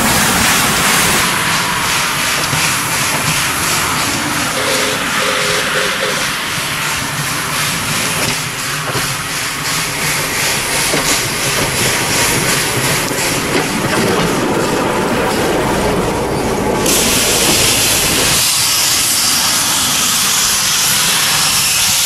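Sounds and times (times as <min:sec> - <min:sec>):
rail car passing: 0:00.0 - 0:22.0
wheels clicking on rails: 0:00.0 - 0:22.0.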